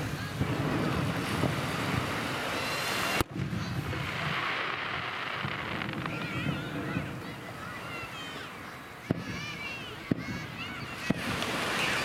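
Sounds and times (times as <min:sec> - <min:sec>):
surf washing on beach: 0:00.0 - 0:12.0
voices: 0:00.0 - 0:12.0
wind on microphone: 0:00.0 - 0:12.0
firework bang: 0:00.3 - 0:07.4, 0:09.1 - 0:12.0.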